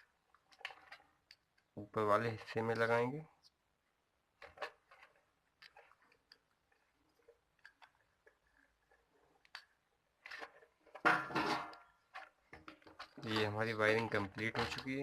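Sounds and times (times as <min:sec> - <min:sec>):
wires clicking and rustling: 0:00.0 - 0:03.6, 0:04.3 - 0:15.0.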